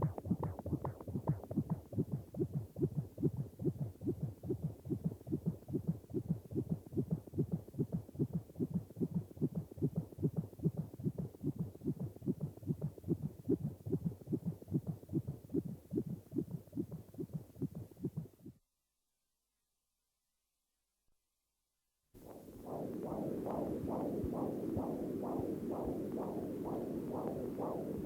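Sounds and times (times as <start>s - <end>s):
heartbeat thumps: 0.0s - 18.6s, 22.2s - 28.0s.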